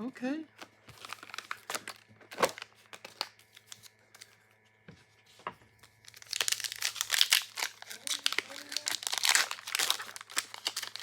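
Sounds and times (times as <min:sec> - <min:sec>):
foil wrapper crinkling and tearing: 0:00.6 - 0:04.4, 0:05.8 - 0:11.0.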